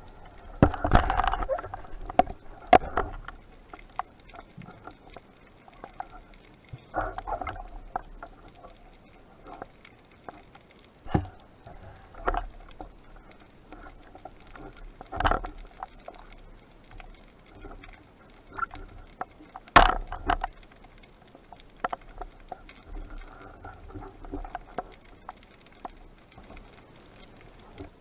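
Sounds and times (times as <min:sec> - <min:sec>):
muffled water noise: 0:00.0 - 0:28.0
underwater knocks and clicks: 0:00.0 - 0:28.0.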